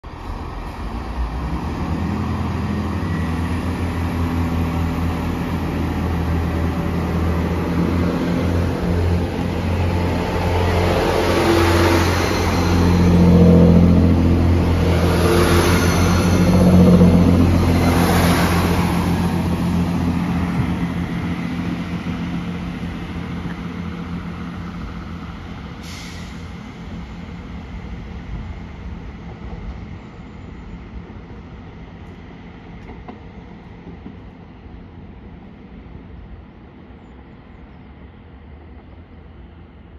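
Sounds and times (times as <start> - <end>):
diesel train engine drone: 0.0 - 39.9
wheels rushing on rail: 0.0 - 39.9.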